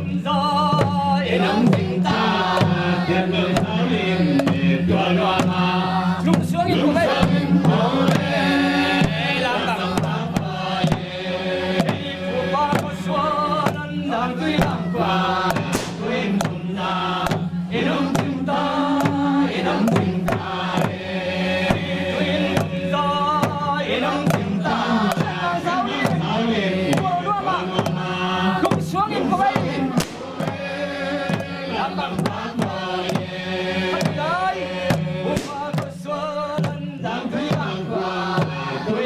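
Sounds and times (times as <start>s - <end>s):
hand drum beats: 0.0s - 39.0s
men chanting: 0.0s - 39.0s.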